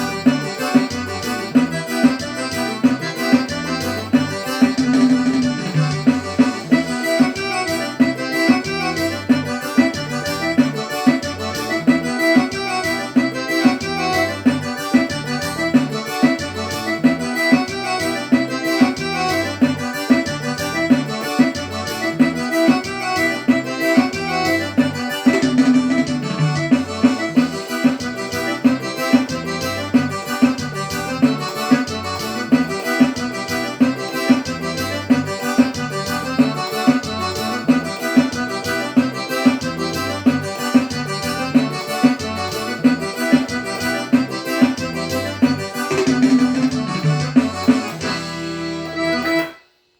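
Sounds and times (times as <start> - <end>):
drum-machine beat: 0.0 - 49.5
keyboard chords: 0.0 - 49.6
accordion-like keyboard lead: 0.0 - 49.8.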